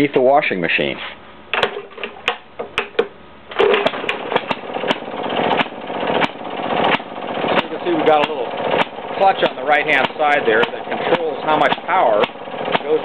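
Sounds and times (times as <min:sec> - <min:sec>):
engine starting knocks: 0:01.6 - 0:13.0
two-stroke engine running: 0:01.6 - 0:13.0.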